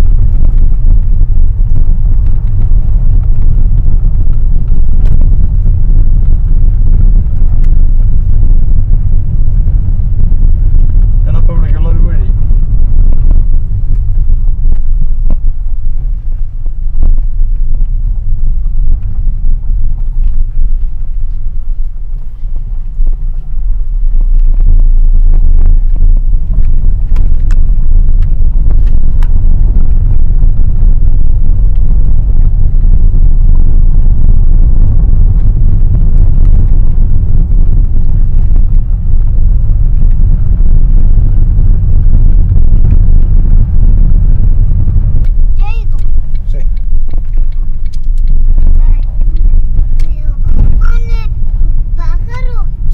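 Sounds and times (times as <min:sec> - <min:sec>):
car interior road rumble: 0:00.0 - 0:52.9.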